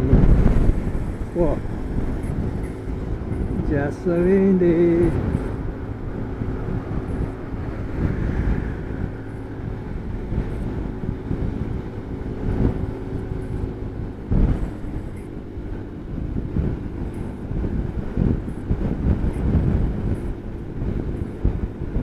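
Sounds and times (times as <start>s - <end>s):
scooter engine running: 0.0s - 22.0s
wind buffeting microphone: 0.0s - 22.0s.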